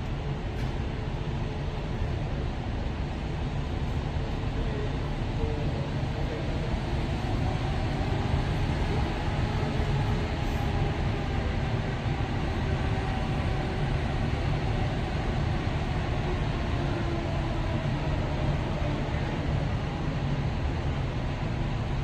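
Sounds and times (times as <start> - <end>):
jet engines idling: 0.0 - 22.0.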